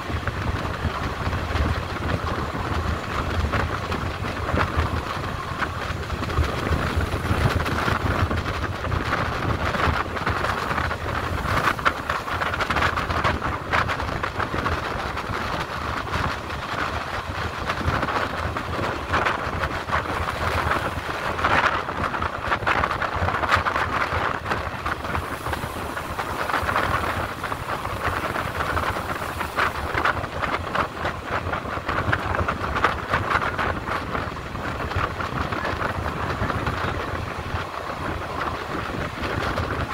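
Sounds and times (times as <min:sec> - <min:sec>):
train clicks and rattles: 0:00.0 - 0:39.9
train wheels rumbling on rails: 0:00.0 - 0:39.9.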